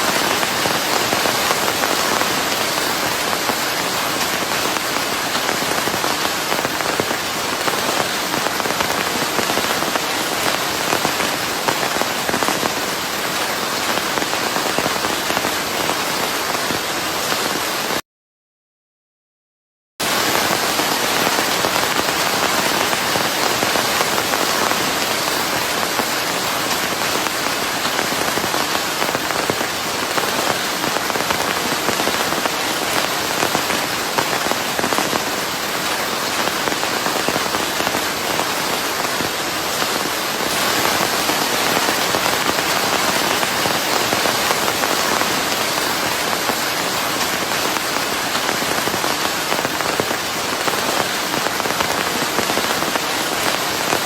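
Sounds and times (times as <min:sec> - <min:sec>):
dense rain on a surface: 0:00.0 - 0:18.0, 0:20.0 - 0:54.0.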